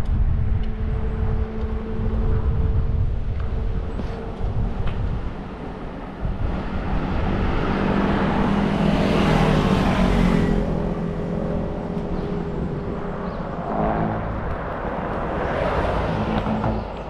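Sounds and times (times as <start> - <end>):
engine running: 0.0 - 17.0
road noise: 0.0 - 17.0
rushing wind: 0.0 - 17.0.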